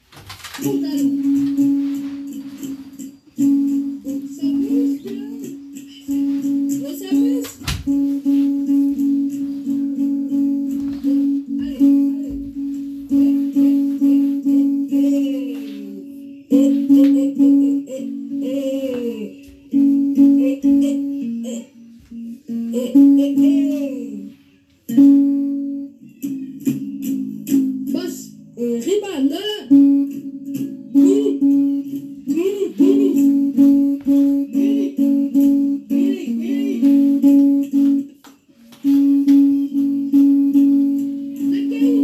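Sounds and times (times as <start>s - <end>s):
plucked string notes: 0.0s - 42.0s.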